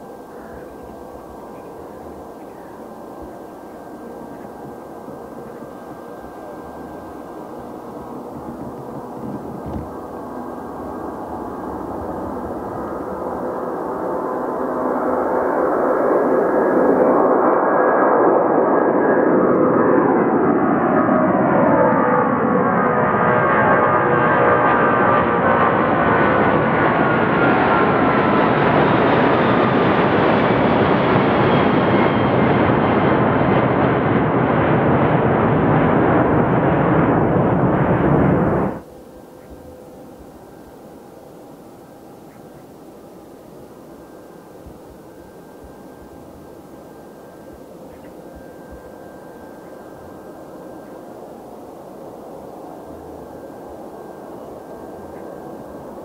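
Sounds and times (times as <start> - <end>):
distant jet hum with whine: 0.0 - 56.0
jet engines roaring: 0.0 - 56.0.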